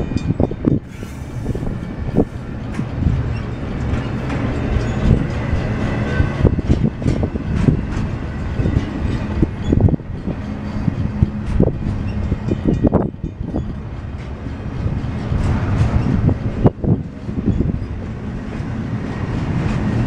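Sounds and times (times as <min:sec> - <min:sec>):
rail cars rumbling past: 0:00.0 - 0:20.0.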